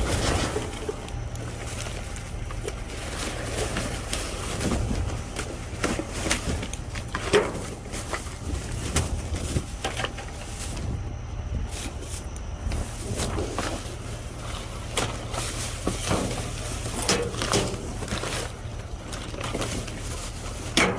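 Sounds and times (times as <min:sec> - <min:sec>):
plastic packaging crinkling: 0:00.0 - 0:11.0, 0:11.6 - 0:20.8
low steady rumble: 0:00.0 - 0:20.9.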